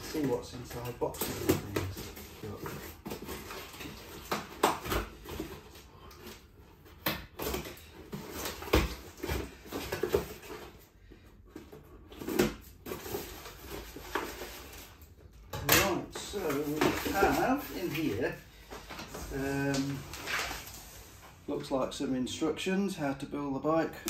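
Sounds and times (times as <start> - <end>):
cardboard rustling: 0.0 - 21.5.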